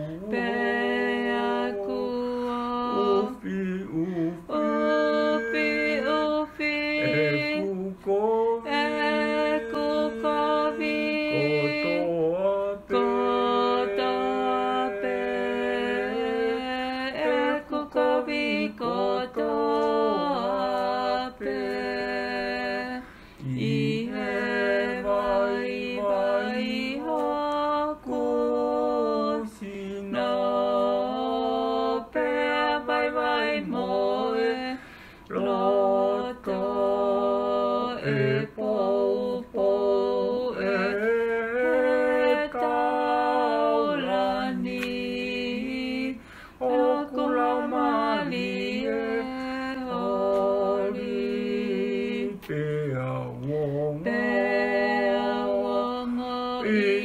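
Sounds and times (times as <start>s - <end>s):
voices singing a hymn: 0.0s - 57.0s.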